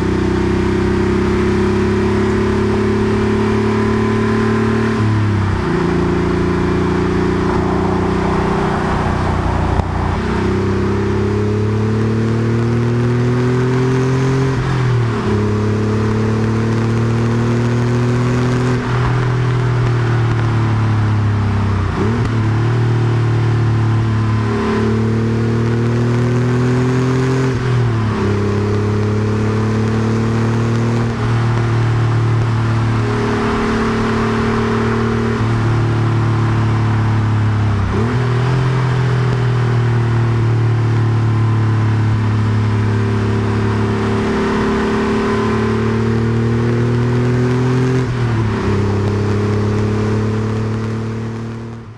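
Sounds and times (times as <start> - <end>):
car engine running: 0.0 - 51.9
road noise: 0.0 - 51.9.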